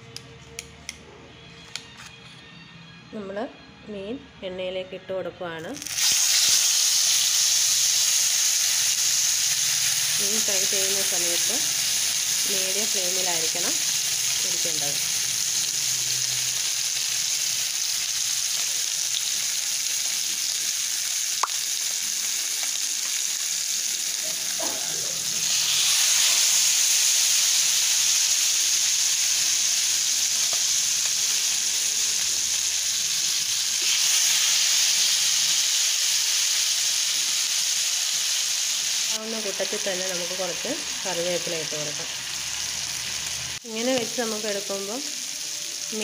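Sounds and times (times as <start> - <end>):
fish sizzling in oil: 5.8 - 46.0.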